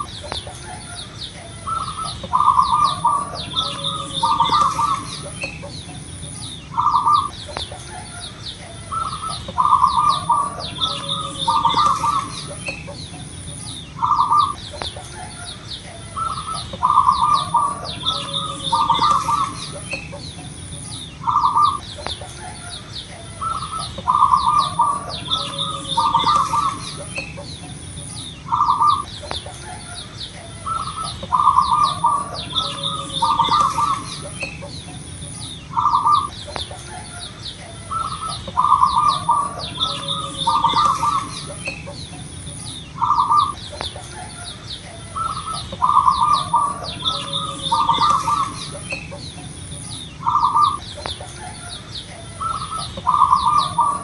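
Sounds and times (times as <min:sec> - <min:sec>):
dove cooing: 0:00.0 - 0:54.0
high-pitched chirping: 0:00.0 - 0:54.0
thin steady high whine: 0:00.0 - 0:54.0.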